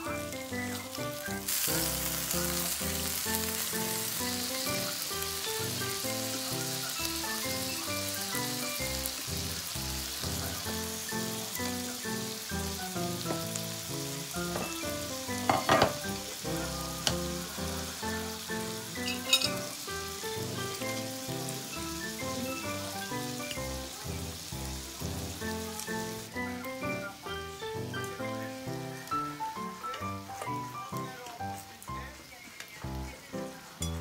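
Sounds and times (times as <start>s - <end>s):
background music: 0.0s - 32.1s
food sizzling on a hot plate: 0.0s - 34.0s.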